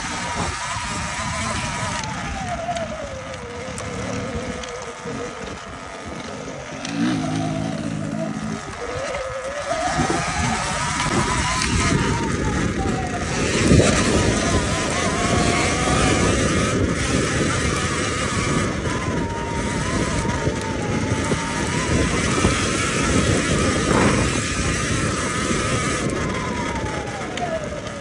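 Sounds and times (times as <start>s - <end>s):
electric motor whining: 0.0s - 28.0s
wind and tyre noise: 0.0s - 28.0s.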